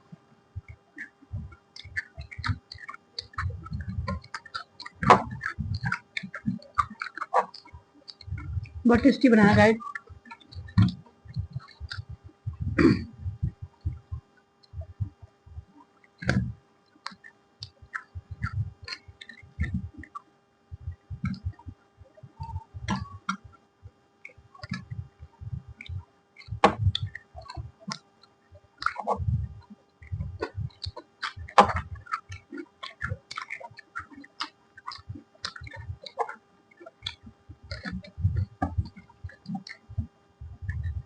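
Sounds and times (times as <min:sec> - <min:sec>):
faint steady hum: 0:00.0 - 0:41.0
chewing and mouth sounds: 0:00.6 - 0:08.8, 0:09.4 - 0:14.0, 0:15.7 - 0:20.3, 0:20.9 - 0:23.4, 0:24.2 - 0:41.0.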